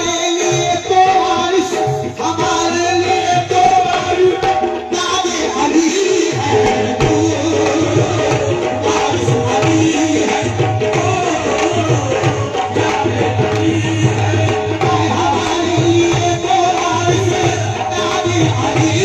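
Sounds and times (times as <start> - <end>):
hand drum rhythm: 0.0 - 19.0
harmoniums playing melody: 0.0 - 19.0.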